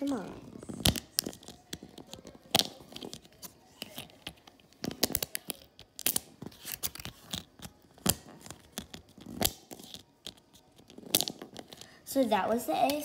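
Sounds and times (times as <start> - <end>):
plastic blister pack bubbles popping: 0.0 - 11.9.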